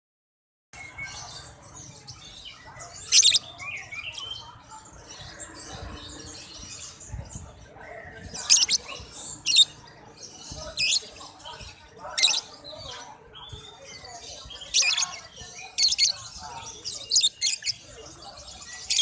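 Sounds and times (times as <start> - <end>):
lovebirds chirping: 0.8 - 19.0.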